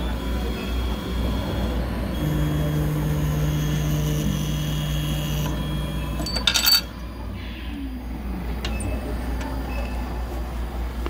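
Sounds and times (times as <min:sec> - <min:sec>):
engraving machine humming: 0:00.0 - 0:09.7.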